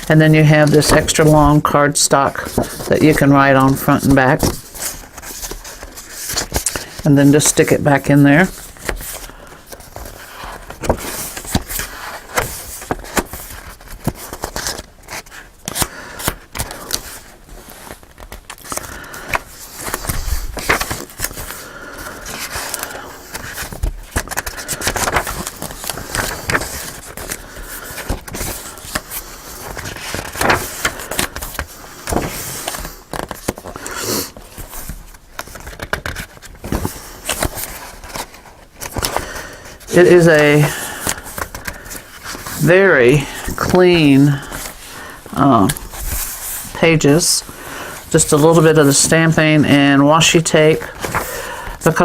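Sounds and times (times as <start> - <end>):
paper pages rustling and flapping: 0.0 - 52.0.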